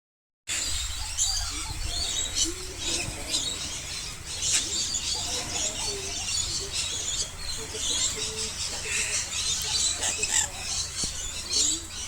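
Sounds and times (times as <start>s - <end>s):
birds chirping: 0.5s - 12.0s.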